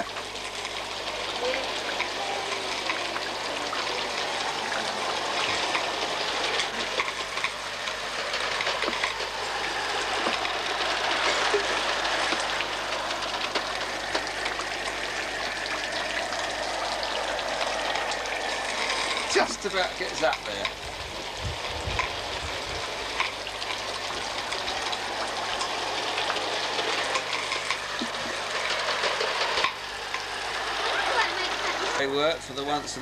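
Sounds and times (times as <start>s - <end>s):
model steam locomotive hissing: 0.0s - 33.0s.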